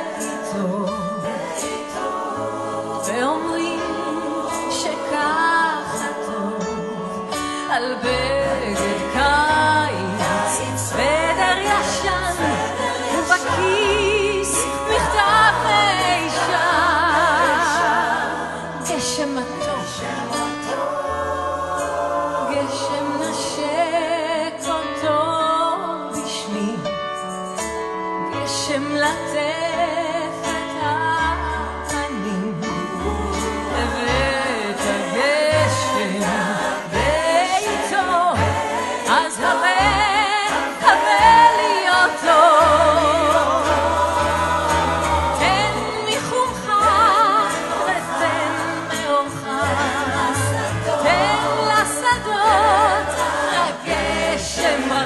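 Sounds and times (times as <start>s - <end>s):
mixed choir singing: 0.0s - 25.0s, 29.6s - 55.0s
piano accompaniment: 0.0s - 55.0s.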